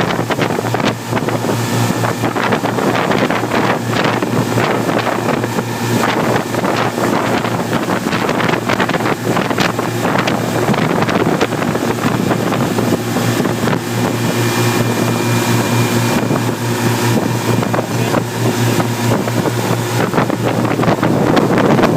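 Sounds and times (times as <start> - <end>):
engine hum: 0.0 - 21.9
wind buffeting microphone: 0.0 - 21.9.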